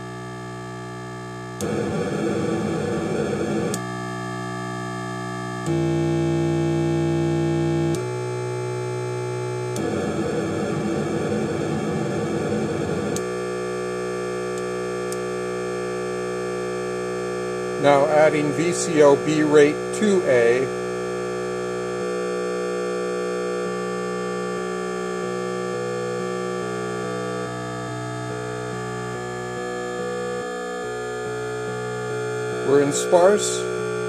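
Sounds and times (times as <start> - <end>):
synthesizer buzzing drone: 0.0 - 34.0.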